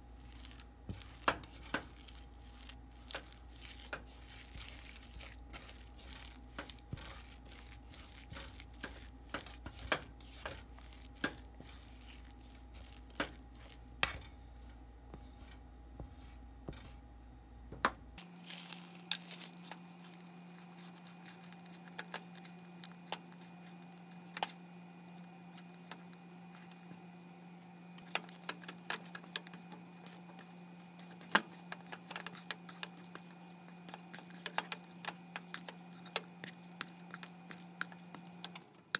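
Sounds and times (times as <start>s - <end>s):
spatula scraping dough in metal bowl: 0.0s - 14.2s, 18.4s - 38.7s
hands kneading dough: 0.0s - 17.1s, 18.2s - 38.9s.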